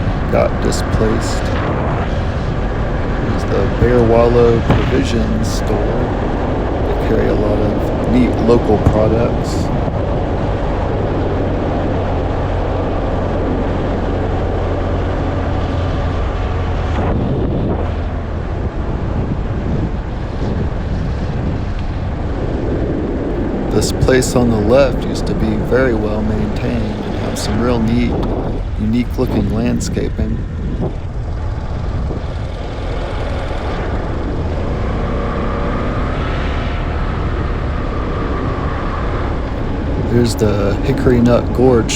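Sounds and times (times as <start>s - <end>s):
faint hum: 0.0s - 34.9s, 35.8s - 41.9s
car tyre and engine noise: 0.0s - 41.9s.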